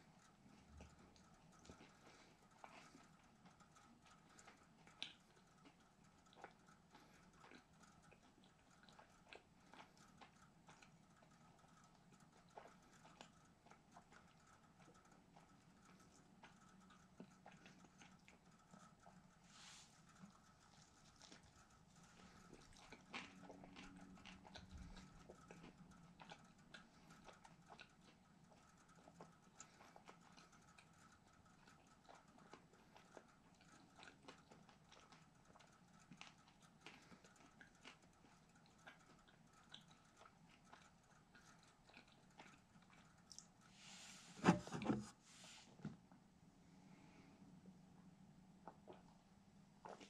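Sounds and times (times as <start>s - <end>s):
man chewing: 0.1s - 45.0s, 48.6s - 50.0s.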